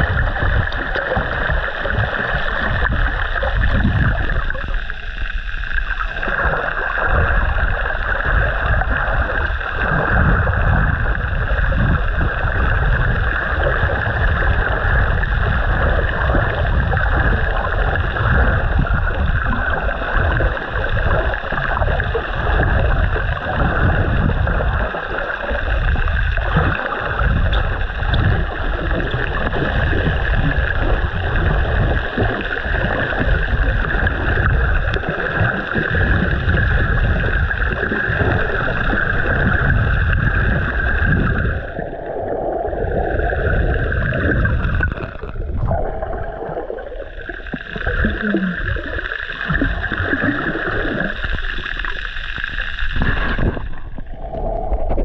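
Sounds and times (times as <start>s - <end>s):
underwater rushing gurgling water: 0.0s - 55.0s.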